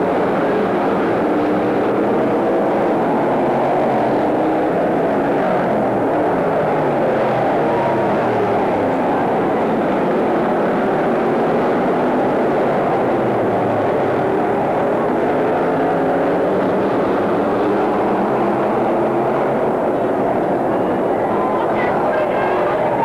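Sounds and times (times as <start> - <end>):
stock car engines droning: 0.0 - 23.0.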